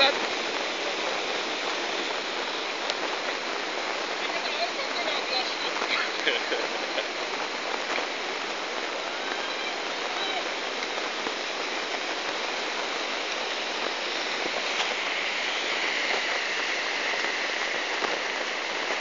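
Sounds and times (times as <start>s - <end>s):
floodwater rushing: 0.0s - 19.0s
rain falling: 0.0s - 19.0s.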